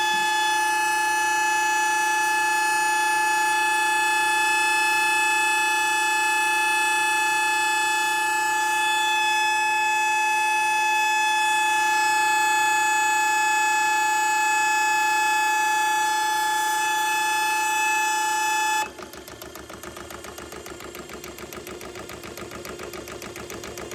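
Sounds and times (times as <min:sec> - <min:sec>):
hydraulic pump whining: 0:00.0 - 0:23.9.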